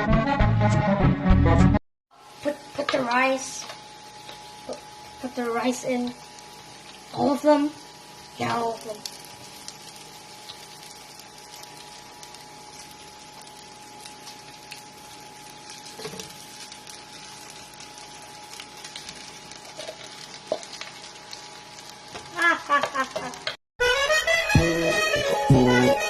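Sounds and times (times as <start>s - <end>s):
food sizzling in a pan: 2.1s - 23.6s.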